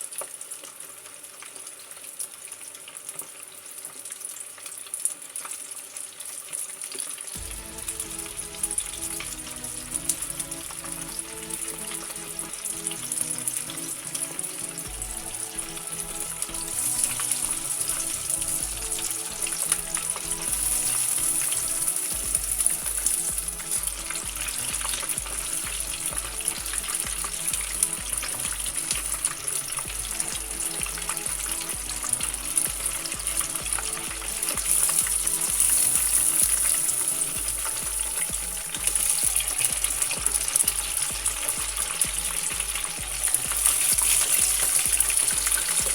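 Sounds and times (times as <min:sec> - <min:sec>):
food deep-frying in oil: 0:00.0 - 0:45.9.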